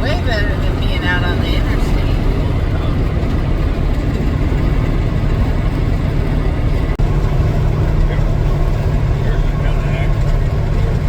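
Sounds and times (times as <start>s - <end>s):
road noise: 0.0s - 11.0s
vehicle engine rumble: 0.0s - 11.0s.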